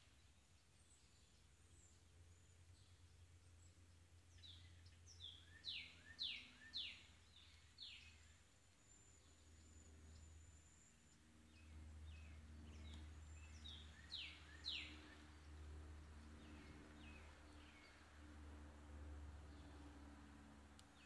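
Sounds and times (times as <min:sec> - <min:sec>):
bird chirping: 0:00.0 - 0:18.4, 0:19.4 - 0:20.2
low steady rumble: 0:00.0 - 0:21.0.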